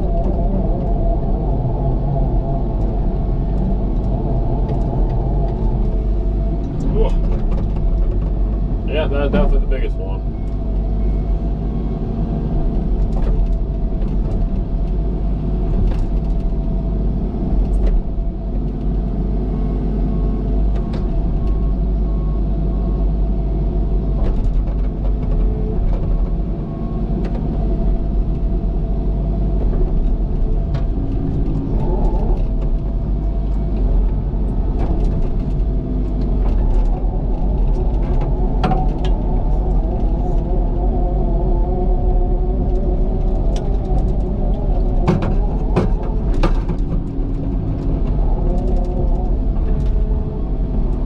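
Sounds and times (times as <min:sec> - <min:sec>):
excavator diesel engine: 0:00.0 - 0:51.0.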